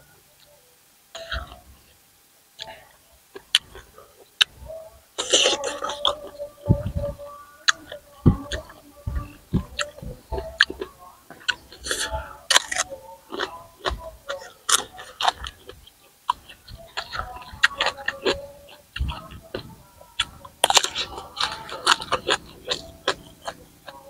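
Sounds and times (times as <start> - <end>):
chewing and crunching: 2.6 - 24.0.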